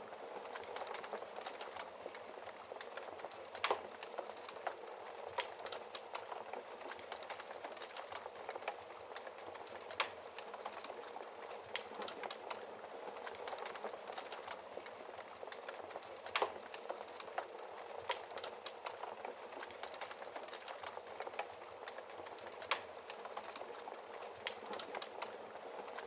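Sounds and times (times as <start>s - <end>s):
wood fire hissing and crackling: 0.0s - 26.0s.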